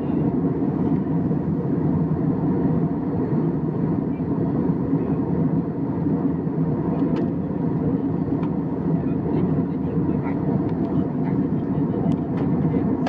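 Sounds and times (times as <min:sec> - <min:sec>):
airliner cabin noise: 0:00.0 - 0:13.0.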